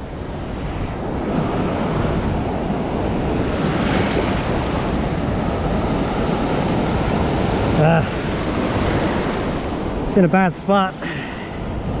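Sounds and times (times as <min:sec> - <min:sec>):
shallow surf rushing: 0:00.0 - 0:12.0.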